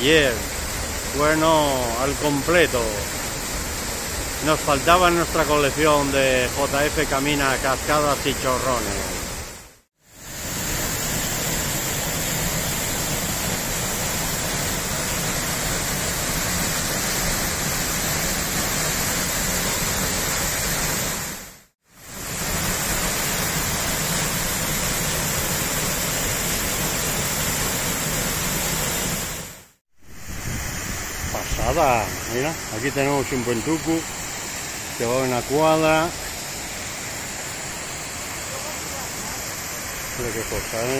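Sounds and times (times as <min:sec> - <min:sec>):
waterfall rushing: 0:00.0 - 0:21.5, 0:22.1 - 0:40.9.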